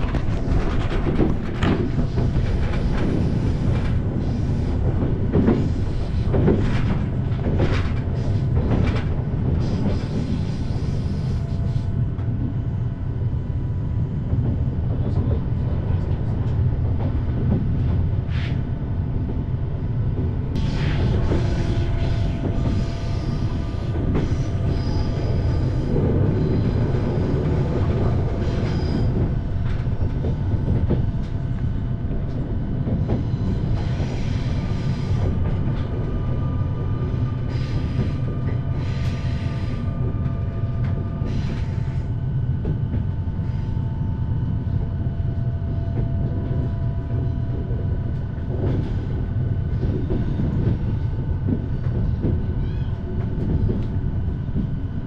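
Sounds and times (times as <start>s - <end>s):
train rumble inside carriage: 0.0s - 55.0s.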